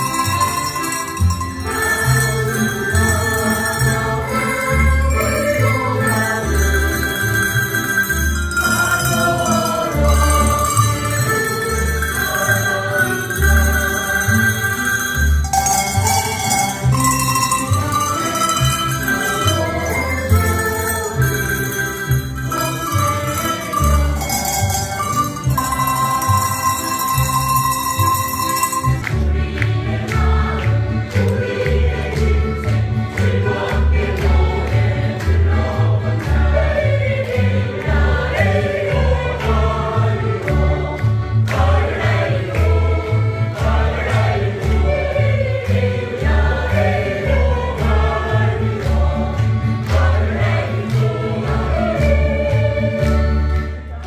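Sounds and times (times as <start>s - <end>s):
group singing in chorus: 0.0s - 54.0s.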